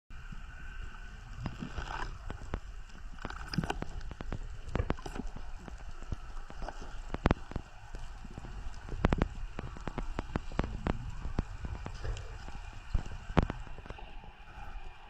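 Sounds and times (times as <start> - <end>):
low underwater rumble: 0.1 - 15.0
underwater clicks and pops: 1.3 - 14.9.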